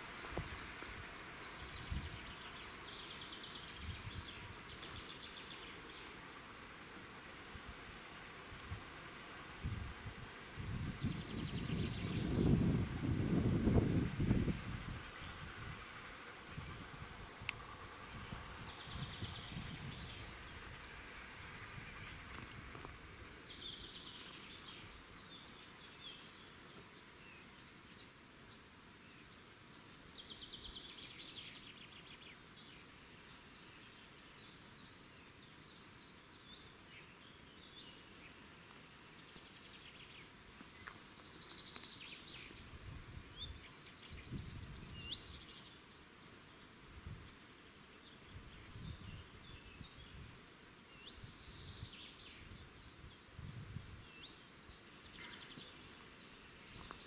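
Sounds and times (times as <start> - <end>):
small birds chirping and trilling: 0.0 - 6.7, 10.4 - 57.0.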